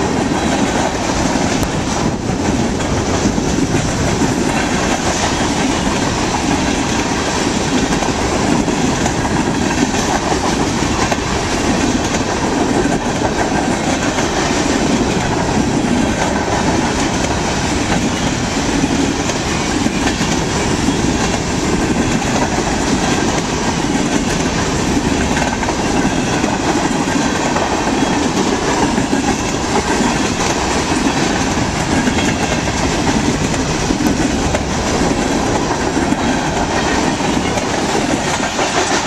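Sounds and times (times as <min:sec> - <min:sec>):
freight train wheels on rails: 0:00.0 - 0:39.0.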